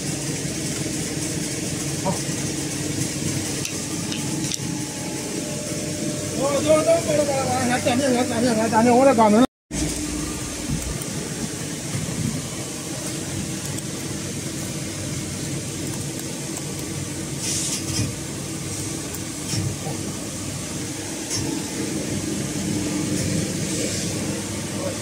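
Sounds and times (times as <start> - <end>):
workshop machinery humming: 0.0 - 25.0.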